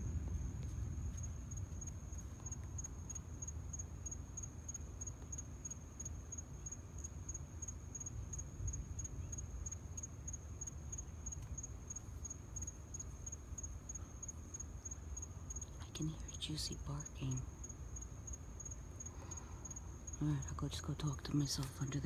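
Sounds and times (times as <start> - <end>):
cricket chirping: 0.0 - 22.0
low steady rumble: 0.0 - 22.0.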